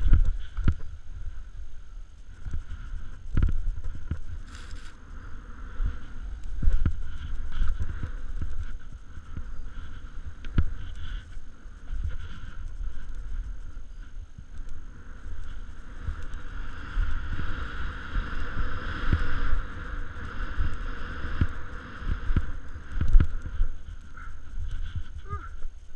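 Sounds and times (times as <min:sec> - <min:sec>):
snow hiss under skis: 0:00.0 - 0:25.9
wind buffeting microphone: 0:00.0 - 0:25.9.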